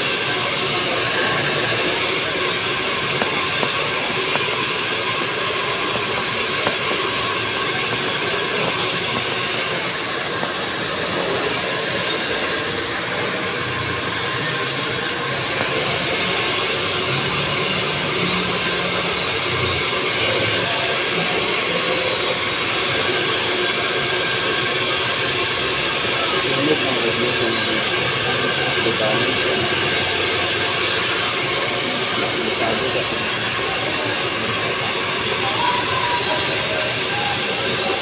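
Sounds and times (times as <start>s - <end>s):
hair dryer blowing: 0.0s - 38.0s.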